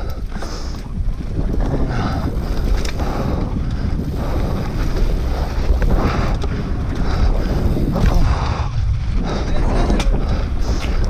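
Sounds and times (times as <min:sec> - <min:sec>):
bike clicks and knocks: 0:00.0 - 0:08.3, 0:09.9 - 0:11.0
tyres rolling on dirt trail: 0:00.0 - 0:11.0
wind rumbling on microphone: 0:00.0 - 0:11.0.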